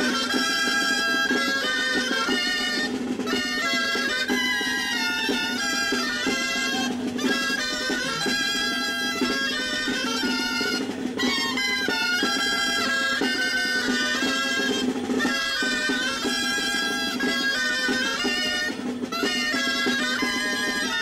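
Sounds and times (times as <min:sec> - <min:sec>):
drum keeping time: 0:00.0 - 0:21.0
folk tune on pipes: 0:00.0 - 0:21.0.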